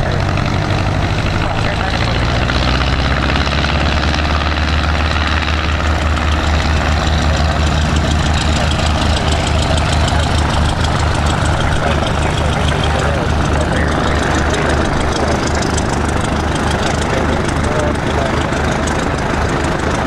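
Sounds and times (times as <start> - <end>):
light plane engine and propeller: 0.0 - 20.0.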